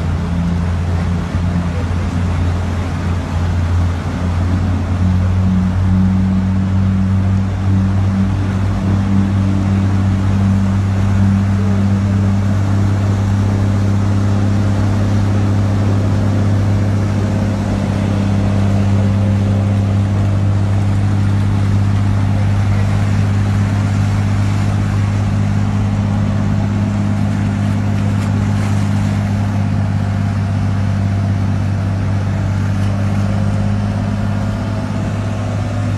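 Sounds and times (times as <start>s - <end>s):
vehicle engine humming: 0.0s - 35.9s.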